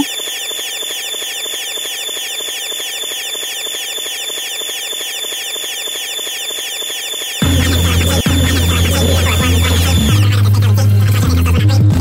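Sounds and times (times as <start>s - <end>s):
electronic noise music loop: 0.0s - 12.0s.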